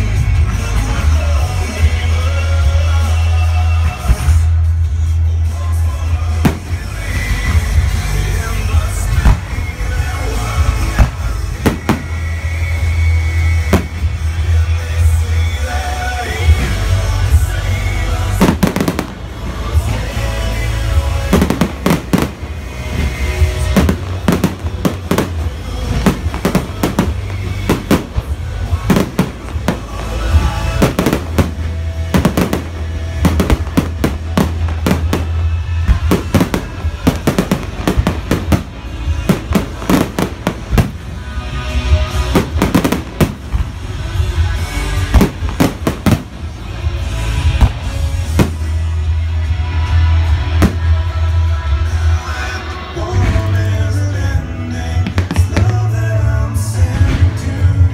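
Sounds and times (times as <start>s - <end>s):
fireworks bangs and crackles: 0.0s - 57.9s
music playing: 0.0s - 57.9s.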